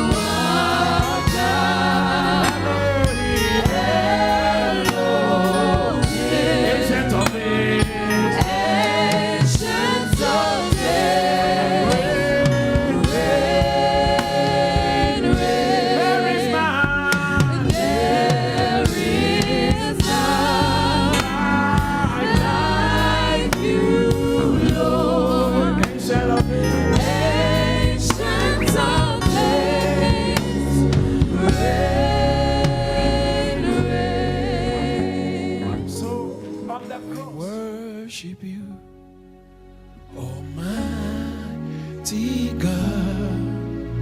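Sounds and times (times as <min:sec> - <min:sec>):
voices singing gospel: 0:00.0 - 0:38.6
low steady accompaniment: 0:00.0 - 0:44.0.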